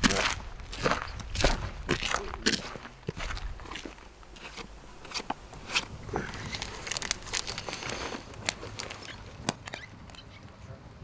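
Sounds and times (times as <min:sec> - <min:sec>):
crinkling and crunching rustles: 0:00.0 - 0:10.8.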